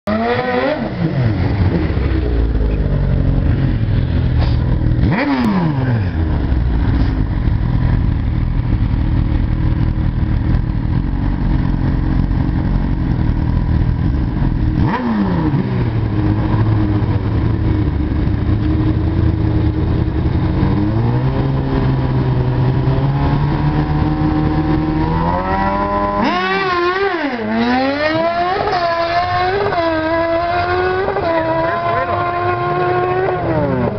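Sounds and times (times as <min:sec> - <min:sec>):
motorcycle engines idling and revving: 0:00.0 - 0:33.9.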